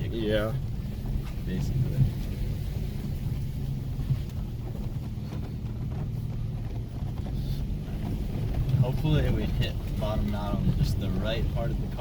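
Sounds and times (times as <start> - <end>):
truck engine low drone: 0.0 - 12.0.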